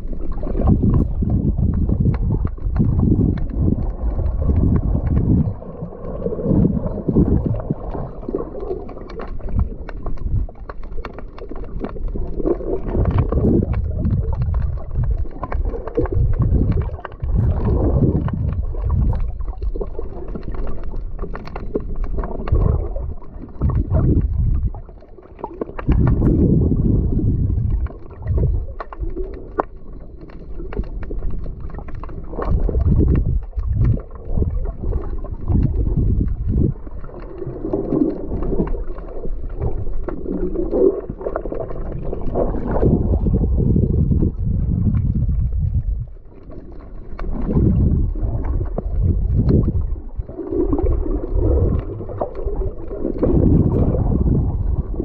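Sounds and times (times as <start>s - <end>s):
low rumble: 0.0s - 10.8s, 11.8s - 25.0s, 25.8s - 29.5s, 30.1s - 55.0s
water sloshing and gurgling: 0.0s - 55.0s.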